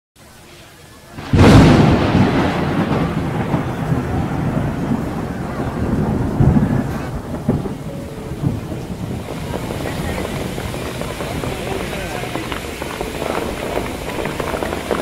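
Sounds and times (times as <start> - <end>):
fountain water jets rumbling: 0.2 - 15.0
heavy water thumps: 1.4 - 15.0.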